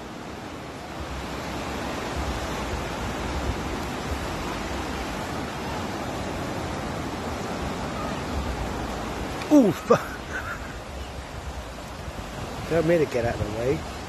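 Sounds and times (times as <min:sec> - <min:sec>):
wind rumbling on microphone: 0:00.0 - 0:09.5, 0:10.1 - 0:14.0
surf washing: 0:00.0 - 0:14.0.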